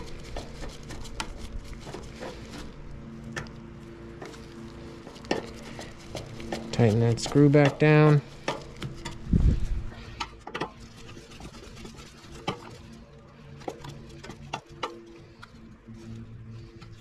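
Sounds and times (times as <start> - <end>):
metallic clicks and scrapes: 0.0 - 17.0.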